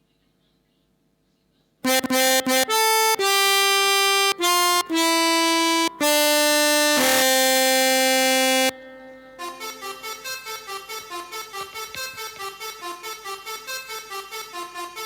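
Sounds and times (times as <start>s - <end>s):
melodica playing held notes: 1.8s - 15.0s.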